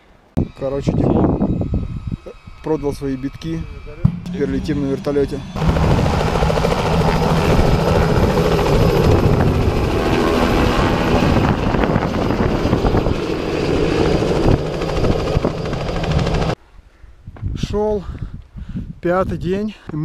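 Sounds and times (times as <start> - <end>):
helicopter rotor and engine: 0.4 - 16.6.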